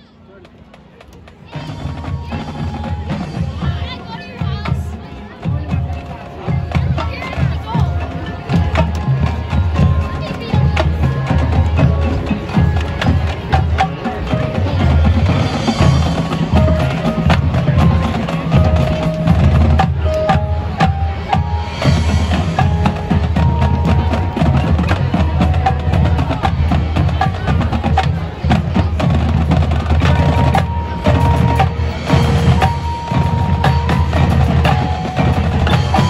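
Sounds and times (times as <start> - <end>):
melody of pitched notes: 1.5 - 27.7, 29.5 - 36.0.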